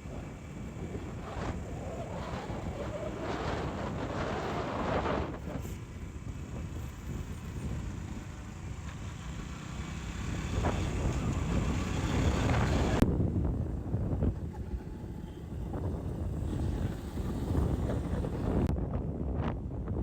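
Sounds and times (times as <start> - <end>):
motorcycle engine running: 0.0 - 18.7
wind rushing over microphone: 0.0 - 20.0.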